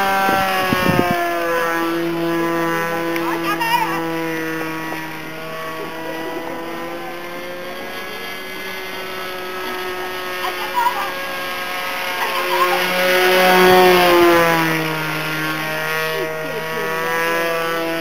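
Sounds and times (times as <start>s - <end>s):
model airplane engine at high revs: 0.0s - 18.0s.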